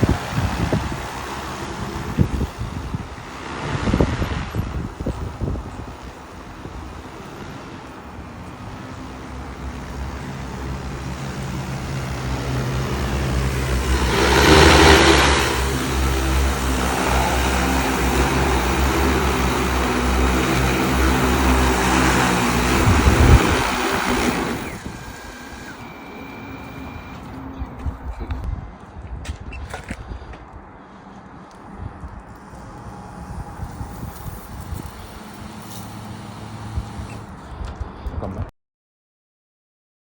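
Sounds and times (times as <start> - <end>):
drone propellers humming: 0.0 - 28.8, 31.5 - 38.0.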